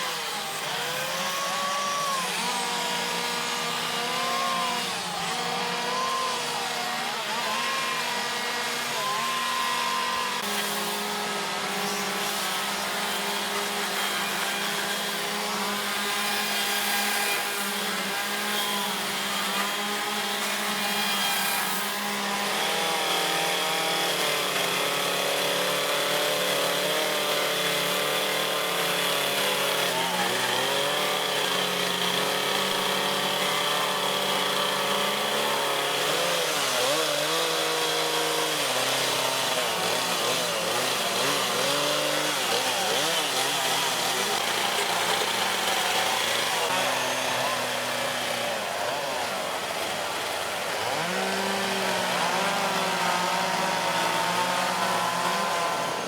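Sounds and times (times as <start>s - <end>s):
chainsaws cutting wood: 0.0s - 56.0s.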